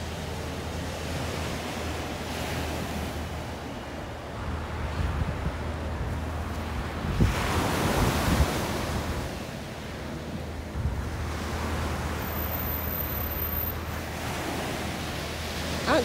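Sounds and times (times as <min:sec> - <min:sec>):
wind rumbling on microphone: 0:00.0 - 0:15.9
waves washing onto stony shore: 0:00.0 - 0:16.0.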